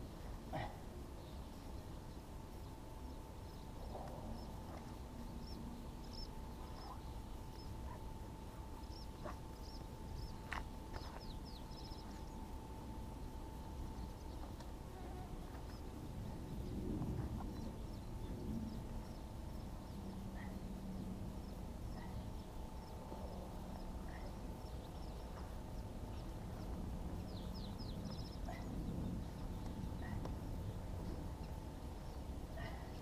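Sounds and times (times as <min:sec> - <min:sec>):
birds chirping: 0:00.0 - 0:33.0
low steady rumble: 0:00.0 - 0:33.0.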